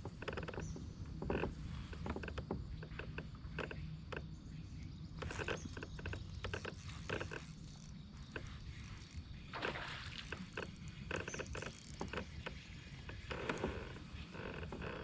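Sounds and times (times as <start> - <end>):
knocks clicks and creaks of kayak: 0.0 - 4.4, 5.0 - 15.0.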